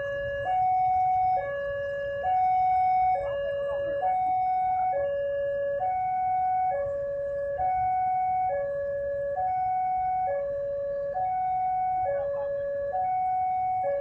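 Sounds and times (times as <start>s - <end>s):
level crossing two-tone alarm: 0.0s - 14.0s.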